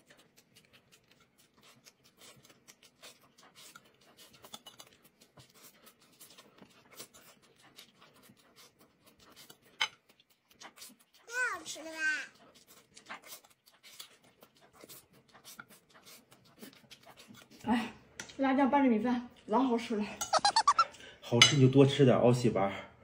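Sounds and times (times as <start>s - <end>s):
soft chewing: 0.0s - 18.4s, 19.0s - 21.3s.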